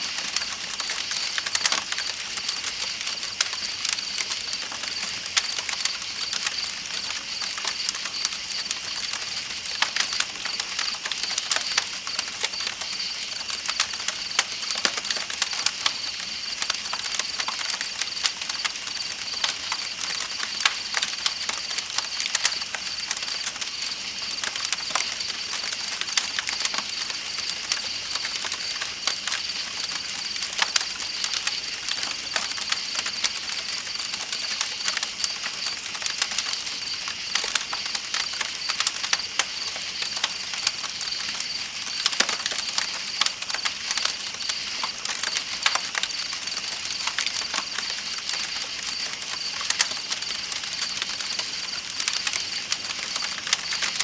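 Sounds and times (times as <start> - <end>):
campfire crackling and popping: 0.1 - 54.0
night insects chirping: 0.1 - 54.0.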